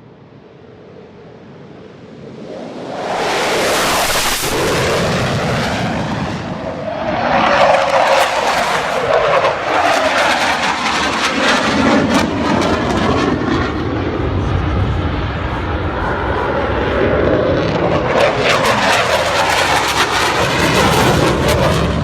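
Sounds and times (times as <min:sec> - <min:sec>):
military jet flying past low: 0:00.2 - 0:22.0.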